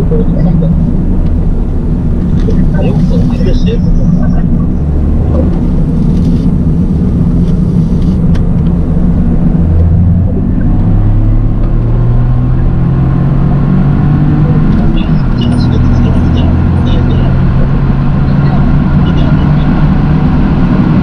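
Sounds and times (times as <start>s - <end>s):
car engine revving: 0.0s - 21.0s
road noise: 0.0s - 21.0s.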